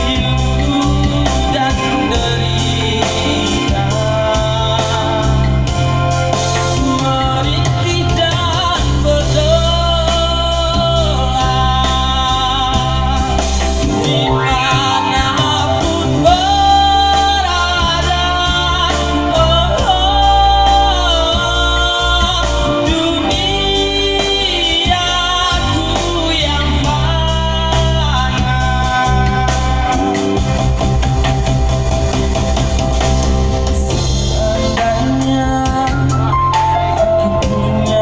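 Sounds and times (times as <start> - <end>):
man singing: 0.0 - 31.2, 33.6 - 38.0
instrumental accompaniment with bass: 0.0 - 38.0.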